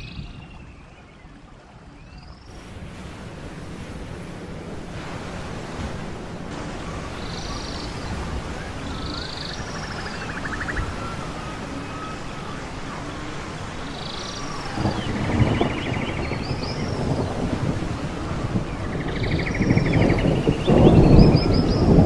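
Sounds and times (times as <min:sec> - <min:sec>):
wind: 0:00.0 - 0:22.0
surf washing: 0:00.6 - 0:22.0.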